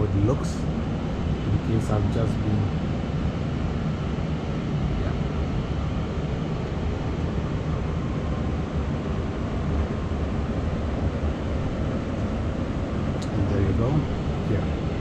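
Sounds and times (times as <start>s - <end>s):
steady low rumbling: 0.0s - 15.0s.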